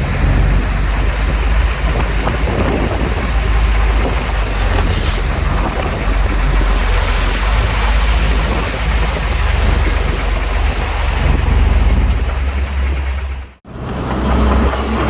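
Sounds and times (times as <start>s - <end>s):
broad rushing noise: 0.0s - 15.0s
diesel machinery engine drone: 0.0s - 15.0s.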